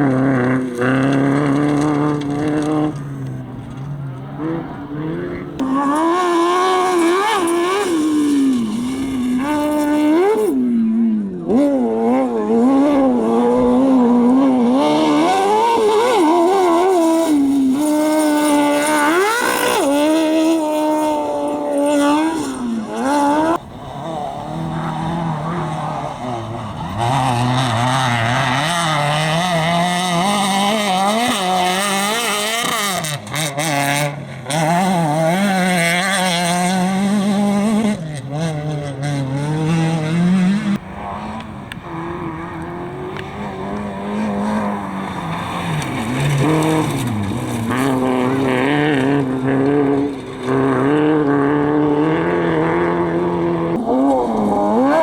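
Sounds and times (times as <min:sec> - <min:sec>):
competition engines revving hard: 0:00.0 - 0:55.0.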